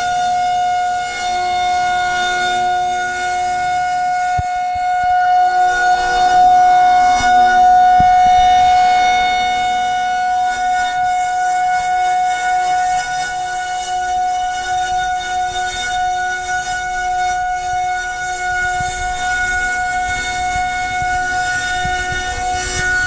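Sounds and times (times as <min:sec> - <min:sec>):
warning siren steady tone: 0:00.0 - 0:23.0.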